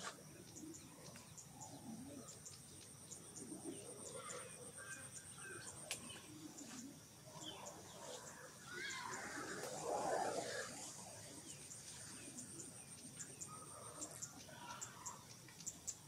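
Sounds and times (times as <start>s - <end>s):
insect drone with ticks: 0.0s - 16.0s.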